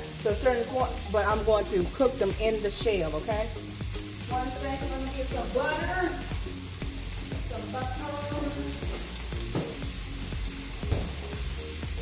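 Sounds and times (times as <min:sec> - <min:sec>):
faint music: 0:00.0 - 0:12.0
steak sizzling in a skillet: 0:00.0 - 0:12.0.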